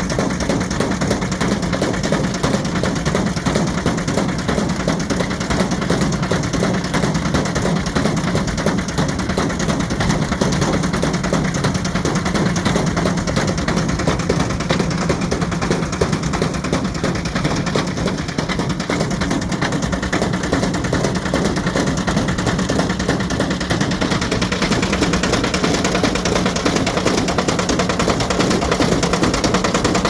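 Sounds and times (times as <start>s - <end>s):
brick rattling in drum: 0.0s - 30.0s
washing machine motor hum: 0.0s - 30.0s.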